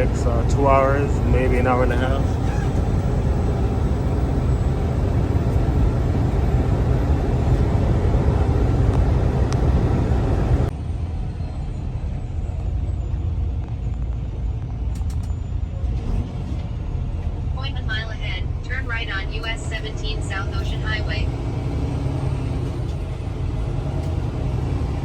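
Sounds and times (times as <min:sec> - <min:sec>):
truck engine and road rumble: 0:00.0 - 0:25.0.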